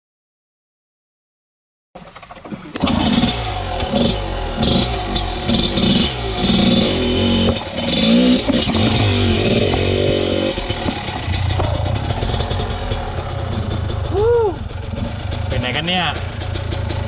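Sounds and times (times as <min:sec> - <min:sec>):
motorcycle engine revving: 0:02.0 - 0:17.0.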